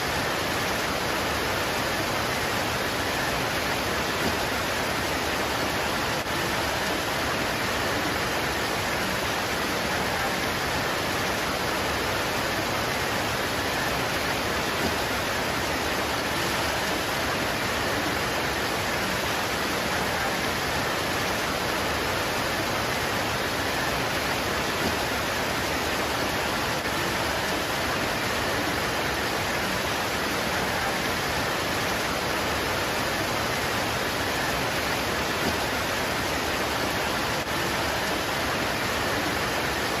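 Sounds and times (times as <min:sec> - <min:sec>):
rain pouring onto leaves: 0:00.1 - 0:40.0.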